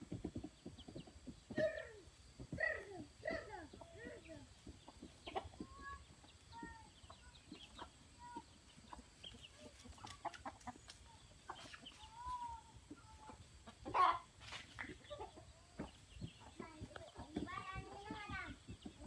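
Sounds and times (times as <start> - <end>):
chickens clucking: 0.0 - 19.0
chicken calls: 0.1 - 19.0.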